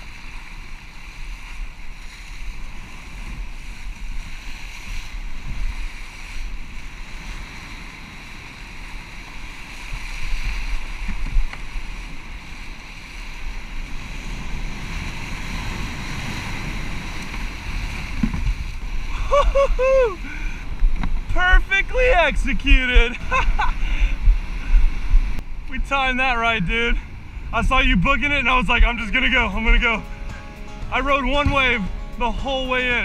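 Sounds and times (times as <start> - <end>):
rushing whitewater: 0.0 - 33.0
wind buffeting microphone: 0.0 - 33.0.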